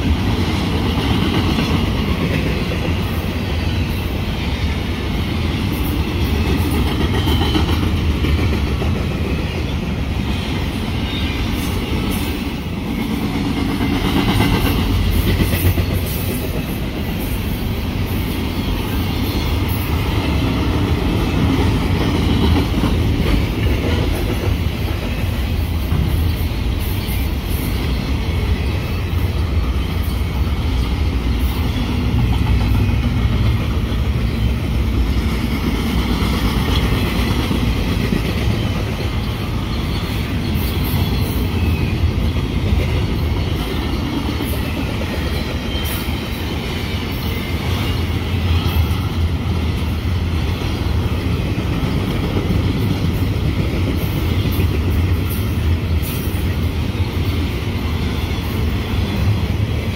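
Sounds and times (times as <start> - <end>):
freight train rumbling past: 0.0 - 59.9
steel wheels clattering on rails: 0.0 - 59.9.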